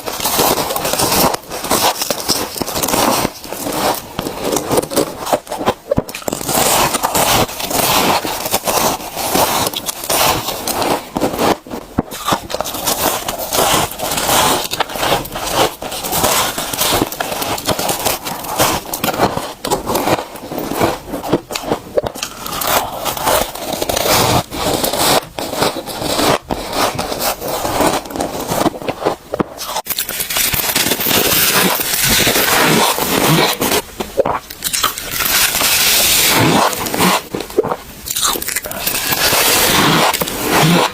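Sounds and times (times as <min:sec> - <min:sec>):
frost being scraped and crunched: 0:00.0 - 0:40.9.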